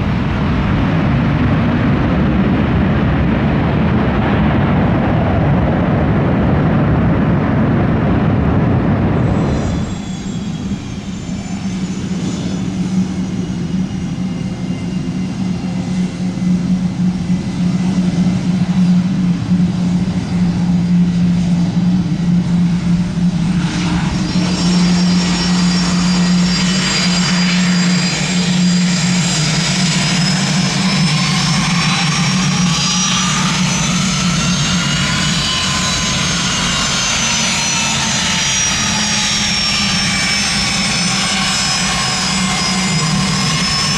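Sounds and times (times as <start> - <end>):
airplane engine drone: 0.0 - 43.9
high engine whine: 0.0 - 43.9.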